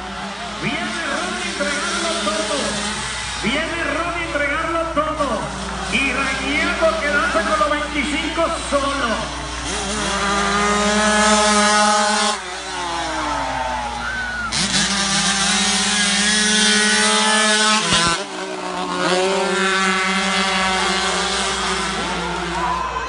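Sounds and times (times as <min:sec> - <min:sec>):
racing motorcycles at high revs: 0:00.0 - 0:23.0.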